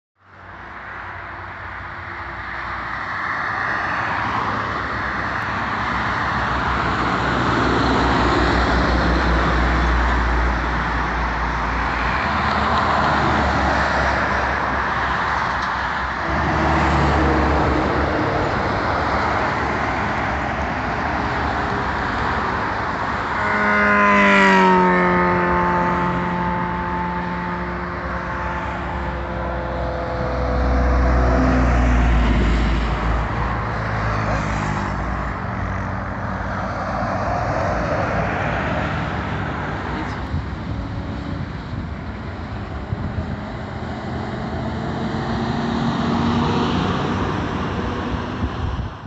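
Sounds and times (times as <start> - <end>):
highway traffic passing: 0.2 - 49.0
vehicle passing with falling tone: 3.5 - 48.8.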